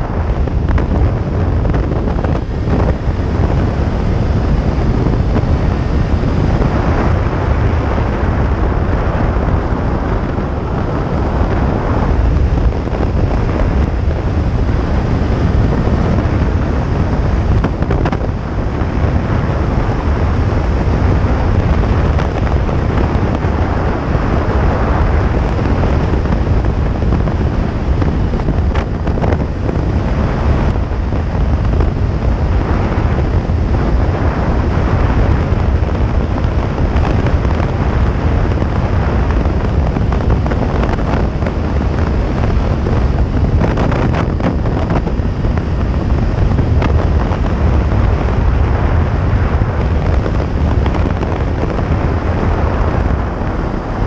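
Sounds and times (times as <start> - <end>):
motorcycle running: 0.0 - 54.0
wind rushing over microphone: 0.0 - 54.0.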